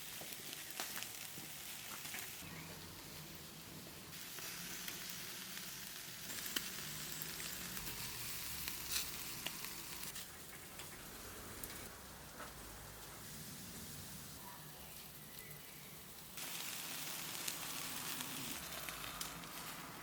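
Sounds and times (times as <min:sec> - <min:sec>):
sharp crackles and pops: 0:00.0 - 0:03.1, 0:04.1 - 0:14.0, 0:14.9 - 0:20.0
food sizzling on a grill: 0:00.0 - 0:20.0.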